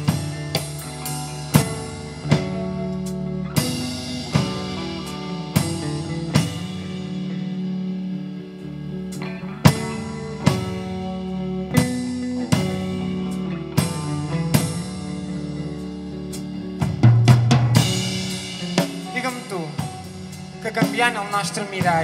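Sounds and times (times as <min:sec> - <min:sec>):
drum and cymbal hits: 0:00.0 - 0:22.0
rock band playing: 0:00.0 - 0:22.0.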